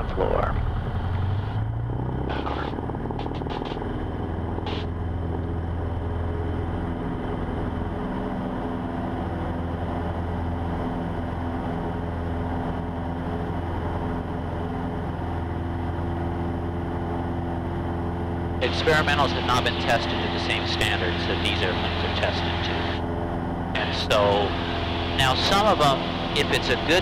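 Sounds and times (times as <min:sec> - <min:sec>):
aircraft engine drone in cabin: 0:00.0 - 0:27.0.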